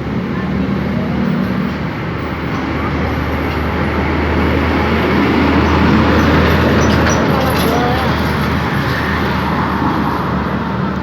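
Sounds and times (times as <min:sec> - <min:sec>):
large vehicle engine hum: 0:00.0 - 0:11.0
tyre and road noise: 0:00.0 - 0:11.0.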